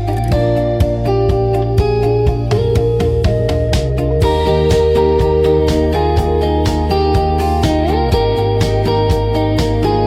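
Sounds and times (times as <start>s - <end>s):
plucked guitar: 0.0s - 10.0s
steady beat: 0.0s - 10.0s.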